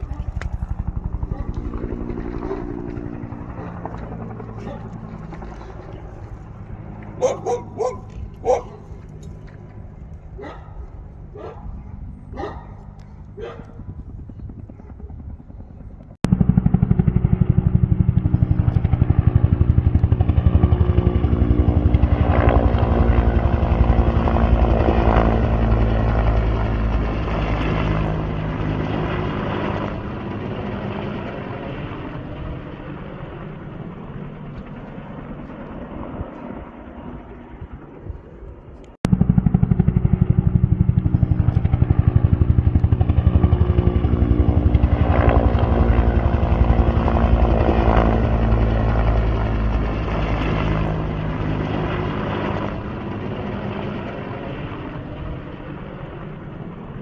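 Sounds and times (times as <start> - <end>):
helicopter rotor beating: 0.0 - 57.0.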